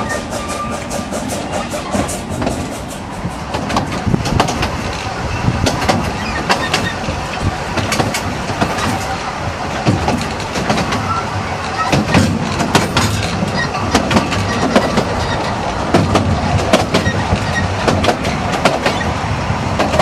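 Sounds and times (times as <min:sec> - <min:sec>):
train carriage rumbling: 0:00.0 - 0:20.0
wheels clicking and knocking: 0:03.5 - 0:20.0.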